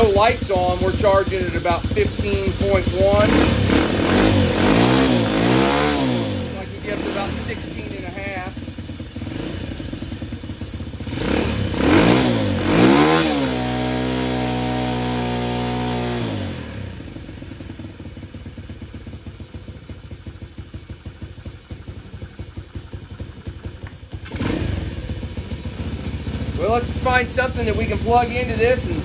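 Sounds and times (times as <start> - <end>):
motorcycle engine revving and idling: 0.0 - 29.0.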